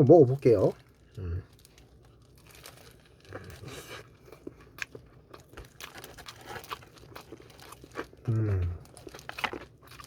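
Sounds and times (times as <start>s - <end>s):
crunching bites of fried chicken: 0.7s - 10.0s.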